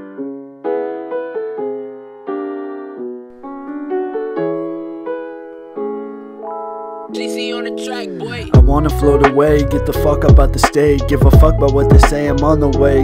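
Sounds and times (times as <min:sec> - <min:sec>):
keyboard playing slow chords: 0:01.6 - 0:13.0.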